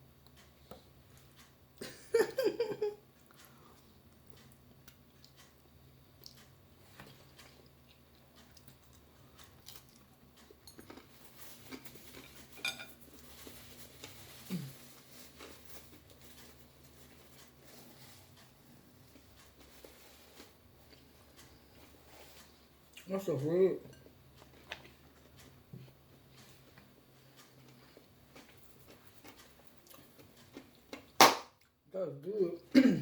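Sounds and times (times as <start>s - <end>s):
person chewing: 3.2s - 23.1s, 24.0s - 31.8s.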